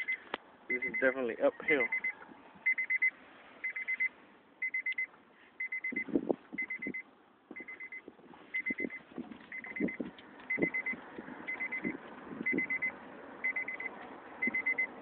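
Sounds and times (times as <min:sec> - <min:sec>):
car warning chime beeping: 0:00.0 - 0:15.0.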